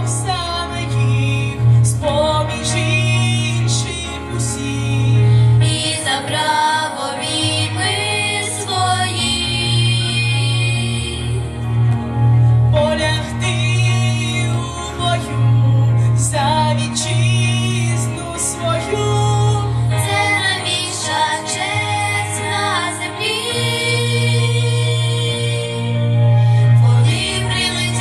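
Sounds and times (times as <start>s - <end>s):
backing track with bass line: 0.0s - 28.0s.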